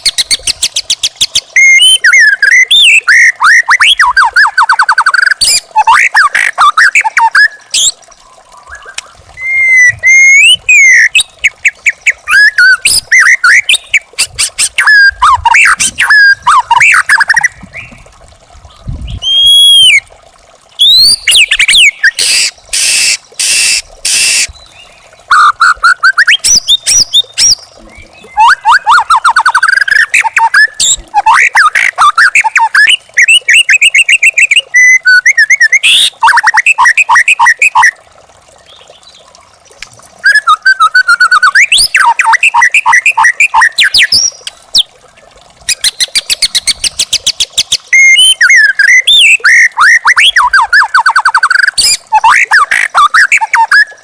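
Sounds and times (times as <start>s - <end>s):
bird singing whistled trills: 0.0s - 14.0s, 19.0s - 20.0s, 20.8s - 37.9s, 40.2s - 44.5s, 45.7s - 54.0s.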